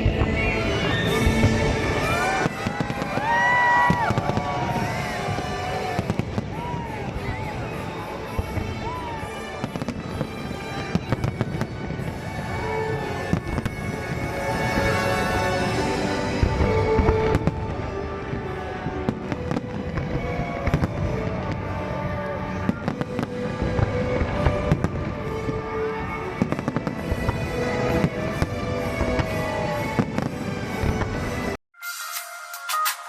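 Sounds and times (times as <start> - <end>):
fireworks bursting and crackling: 0.0 - 31.6
loud show music: 0.0 - 33.0.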